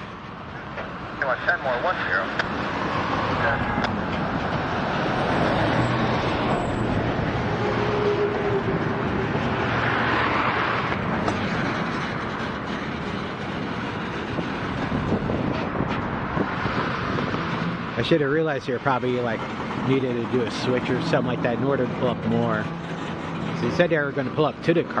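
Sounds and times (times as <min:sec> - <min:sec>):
freight train rolling on rails: 0:00.0 - 0:25.0.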